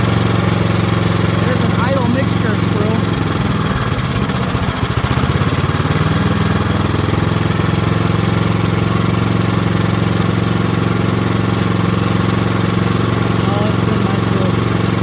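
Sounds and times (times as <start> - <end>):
snowblower engine running: 0.0 - 15.0.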